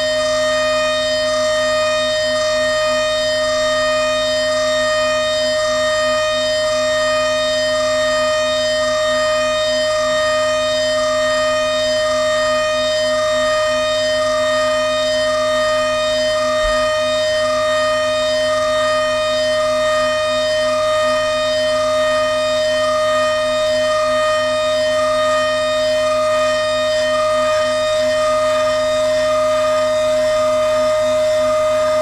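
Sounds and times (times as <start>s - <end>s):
milling machine spindle whine: 0.0s - 32.0s.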